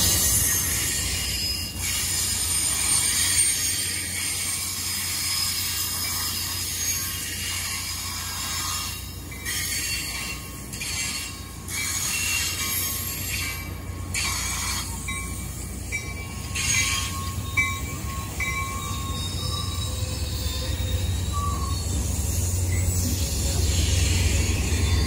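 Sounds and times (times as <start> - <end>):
high wheel squeal: 0.0 - 25.0
train rumbling on rails: 0.0 - 25.0
wheels clacking over rail joints: 0.0 - 25.0.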